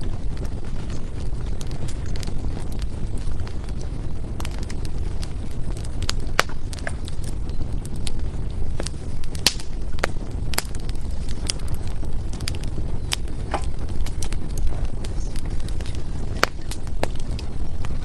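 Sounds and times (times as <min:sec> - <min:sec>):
firewood crackling and popping: 0:00.0 - 0:18.0.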